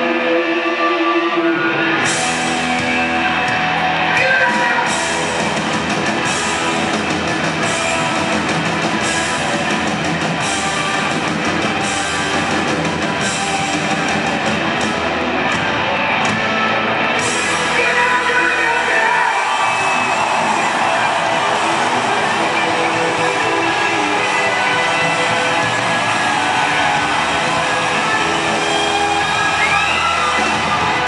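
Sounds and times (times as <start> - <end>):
hard rock band playing live: 0.0 - 31.0.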